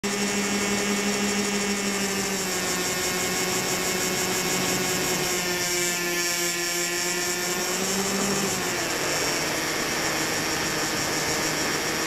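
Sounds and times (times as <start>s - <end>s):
model plane motor whining: 0.0s - 12.0s.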